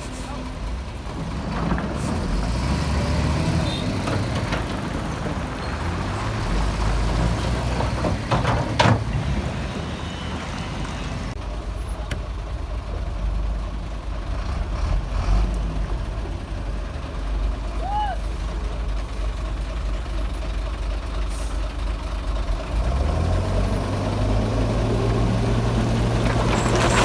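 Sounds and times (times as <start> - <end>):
diesel machinery engine rumble: 0.0 - 27.0.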